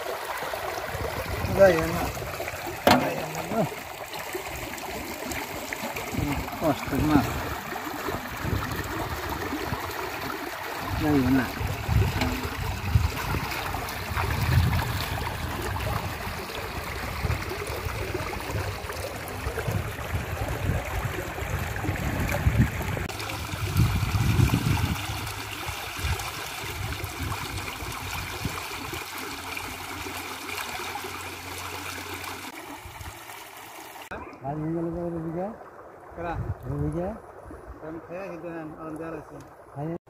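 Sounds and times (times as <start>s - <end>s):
water trickling and splashing: 0.0s - 40.0s.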